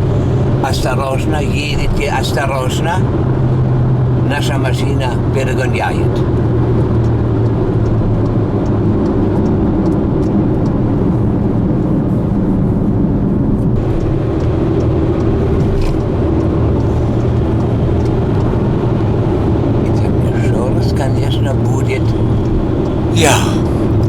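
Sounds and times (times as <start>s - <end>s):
car engine and tyre drone: 0.0s - 24.0s.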